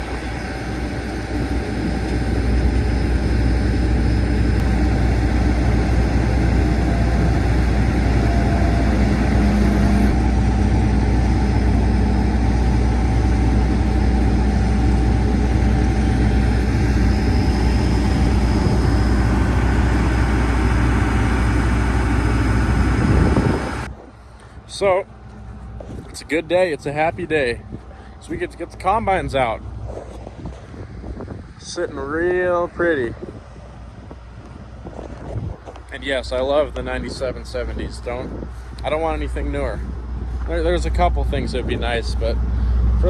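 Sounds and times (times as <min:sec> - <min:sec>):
large vehicle engine running: 0:00.0 - 0:43.0.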